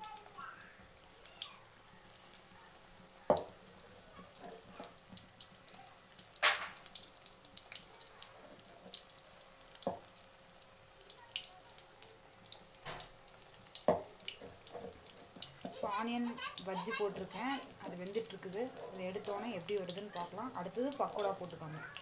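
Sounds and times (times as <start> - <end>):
oil crackling and spitting: 0.0 - 22.0.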